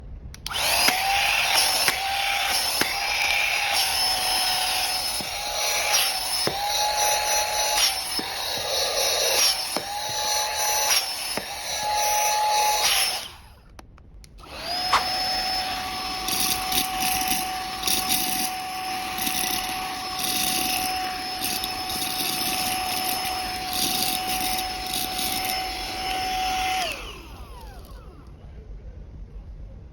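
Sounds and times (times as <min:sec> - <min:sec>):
vacuum cleaner motor whine: 0:00.4 - 0:13.6, 0:14.4 - 0:28.3.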